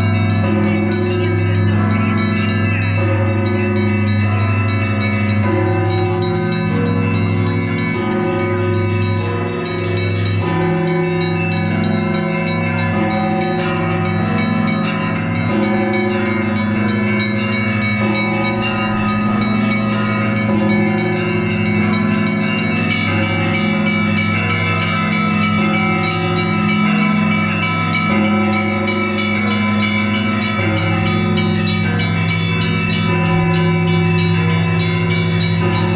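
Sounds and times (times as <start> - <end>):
deep large bells: 0.0 - 35.9
smaller higher bells striking: 0.0 - 35.9.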